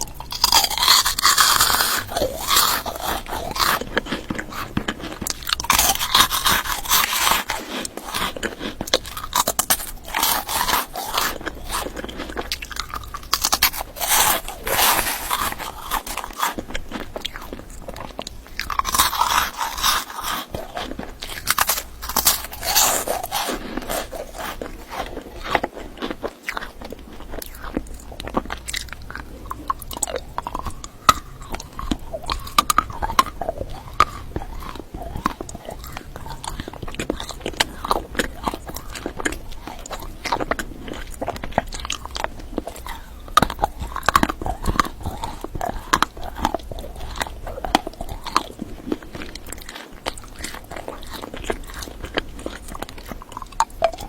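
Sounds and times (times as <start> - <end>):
crunching hard candies: 0.0 - 54.0.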